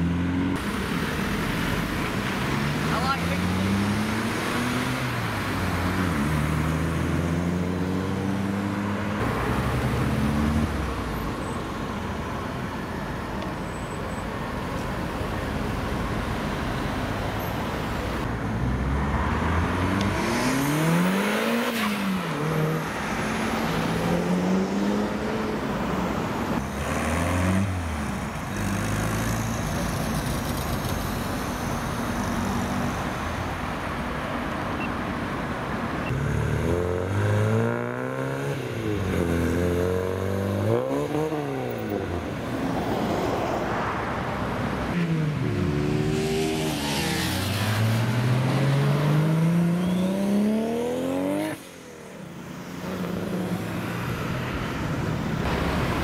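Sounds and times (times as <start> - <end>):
cars driving past: 0.0 - 13.7, 14.9 - 56.0
car engines revving: 0.0 - 56.0
tyre and road noise: 0.0 - 56.0.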